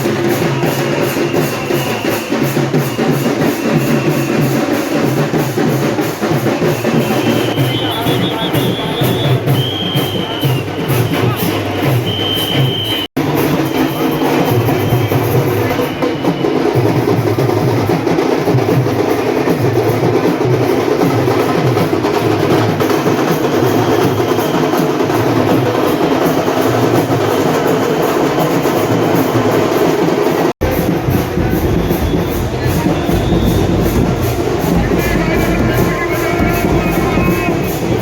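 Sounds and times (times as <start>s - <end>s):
drums pounding a rhythm: 0.0s - 38.0s.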